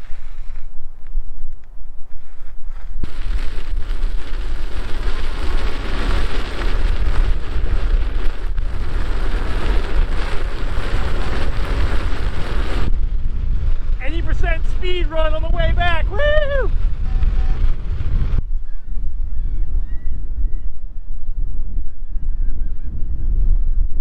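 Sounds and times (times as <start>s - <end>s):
deep rumble: 0.0s - 24.0s
wind buffeting microphone: 0.0s - 24.0s.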